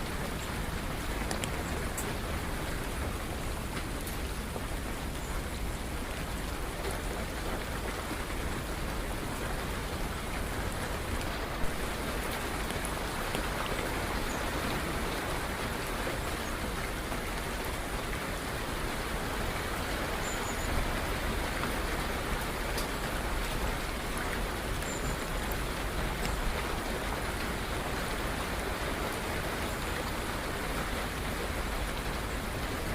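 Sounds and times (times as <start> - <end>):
steady rain falling: 0.0 - 32.9.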